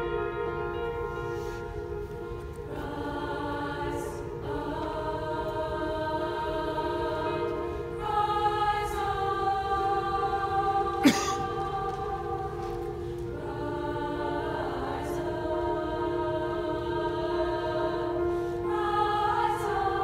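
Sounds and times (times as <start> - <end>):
women's choir singing chords: 0.0 - 20.0.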